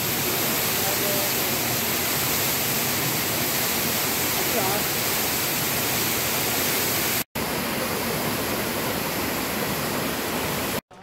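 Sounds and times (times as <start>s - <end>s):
rushing stream water: 0.0s - 10.8s.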